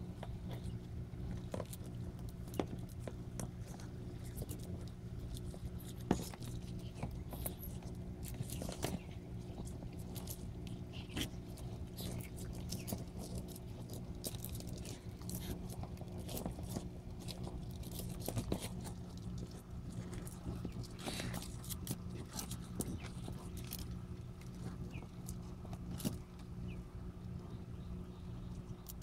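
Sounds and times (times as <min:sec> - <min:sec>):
turtles crunching bites: 0:00.1 - 0:26.6.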